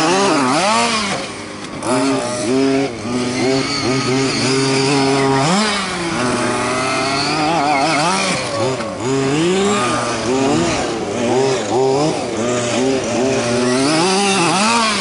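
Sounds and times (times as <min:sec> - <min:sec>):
small two-stroke engine revving: 0:00.0 - 0:15.0.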